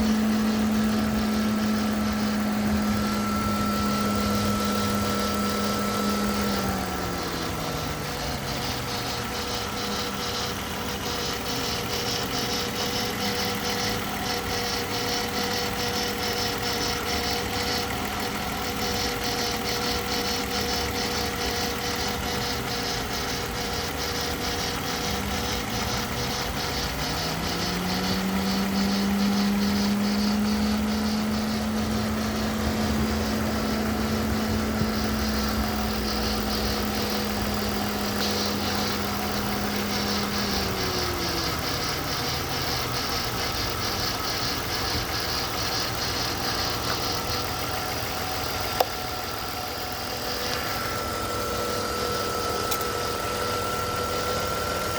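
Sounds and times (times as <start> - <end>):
fast even ticking: 0.0 - 51.4
car engine idling: 0.0 - 54.9
steady engine whine: 0.0 - 54.9.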